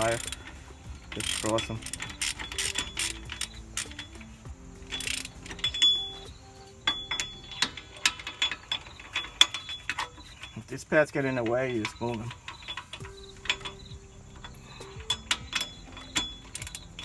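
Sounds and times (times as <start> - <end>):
hand ratchet clicking: 0.0 - 17.0.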